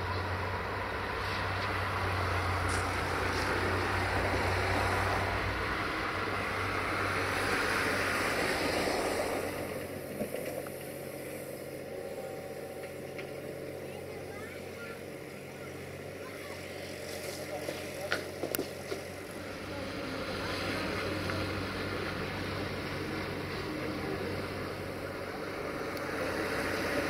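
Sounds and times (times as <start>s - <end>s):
excavator diesel engine running: 0.0s - 27.0s
excavator digging sand: 0.0s - 27.0s.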